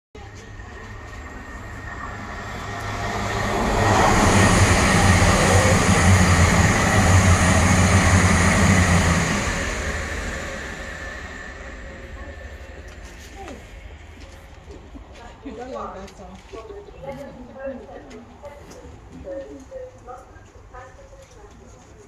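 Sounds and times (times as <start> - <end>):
train passing at speed: 0.2 - 21.7.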